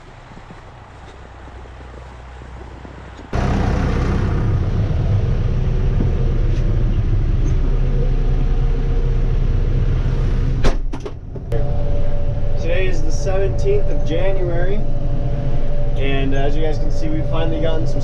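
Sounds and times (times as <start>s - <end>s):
road noise: 0.0s - 18.0s
vehicle engine humming: 0.0s - 18.0s.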